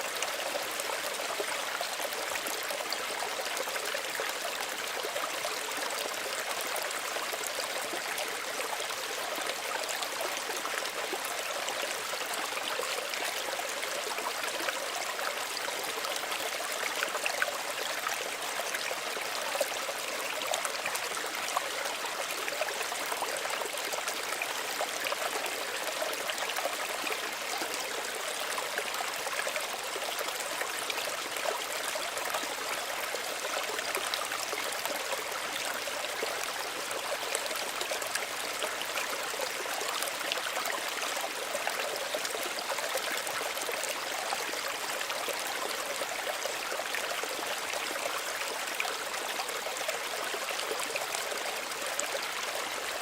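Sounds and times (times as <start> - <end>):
stream trickling over stones: 0.0 - 53.0.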